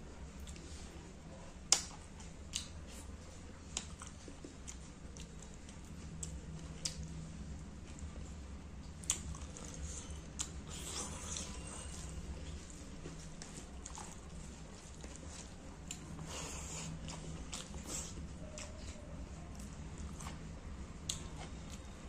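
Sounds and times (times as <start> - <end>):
low steady hum: 0.0 - 22.0
chewing food: 1.7 - 7.2, 7.8 - 22.0.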